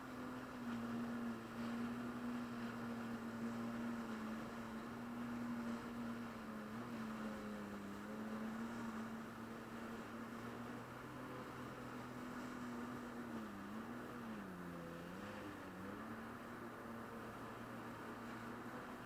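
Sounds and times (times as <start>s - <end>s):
muffled jet ski engine hum: 0.0s - 19.0s.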